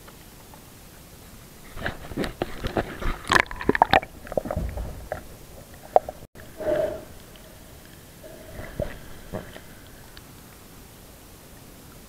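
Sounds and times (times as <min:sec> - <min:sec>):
muffled hum: 0:01.4 - 0:11.5
underwater water sounds: 0:01.6 - 0:12.0.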